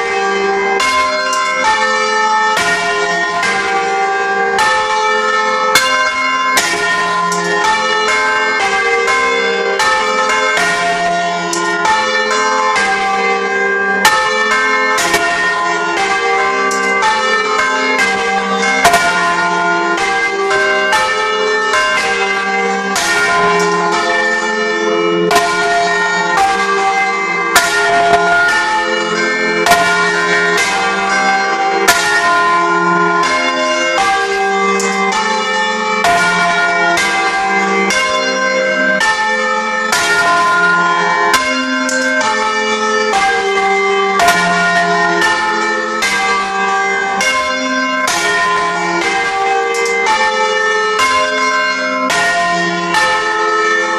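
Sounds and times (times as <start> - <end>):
church bells ringing: 0.0 - 53.9.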